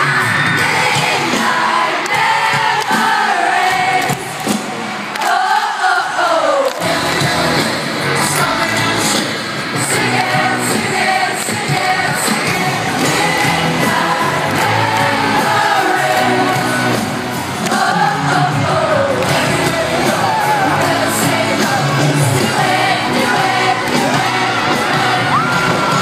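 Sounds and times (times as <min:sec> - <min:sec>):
crowd singing along and cheering: 0:00.0 - 0:26.0
lead vocals: 0:00.0 - 0:26.0
pop band playing live: 0:00.0 - 0:26.0.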